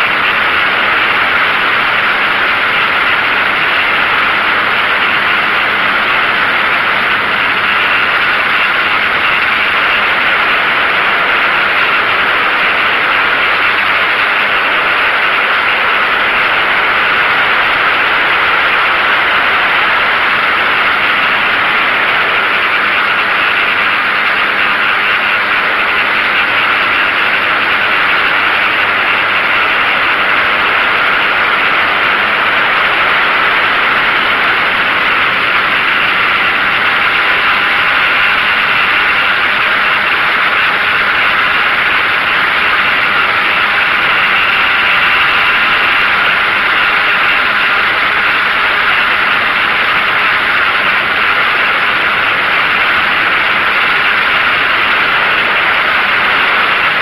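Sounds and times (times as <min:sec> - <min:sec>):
drone propellers rushing: 0:00.0 - 0:57.0.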